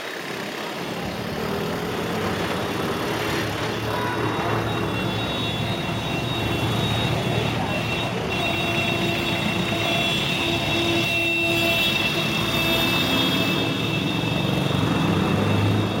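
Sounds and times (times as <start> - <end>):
traffic engine and road rumble: 0.0 - 16.0.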